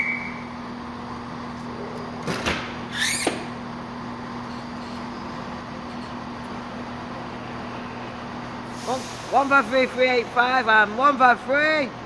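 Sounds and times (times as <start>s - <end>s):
diesel train idling: 0.0s - 2.9s, 3.5s - 12.0s.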